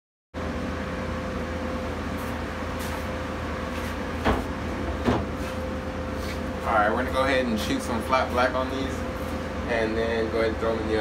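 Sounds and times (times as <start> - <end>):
exhaust fan droning: 0.4 - 11.0.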